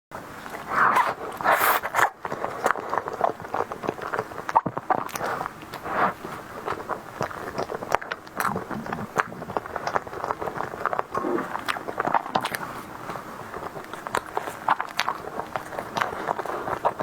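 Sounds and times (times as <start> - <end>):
wet mouth clicks and chewing: 0.4 - 17.0.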